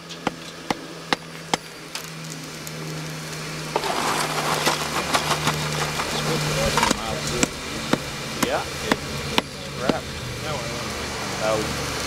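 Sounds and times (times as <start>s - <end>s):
steady low hum: 0.0s - 12.0s
crackling: 0.1s - 11.1s.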